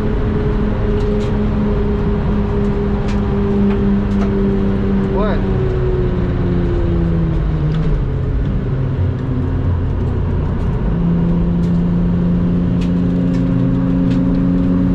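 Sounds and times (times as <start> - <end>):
car engine running at speed: 0.0 - 14.9
road and wind noise: 0.0 - 14.9.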